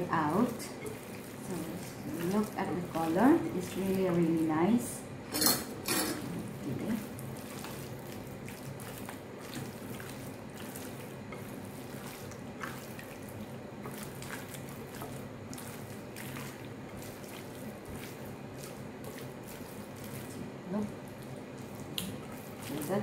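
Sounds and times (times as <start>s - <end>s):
wet squelches of marinating meat: 0.0s - 5.0s, 6.2s - 23.0s
steady low hum: 0.0s - 23.0s.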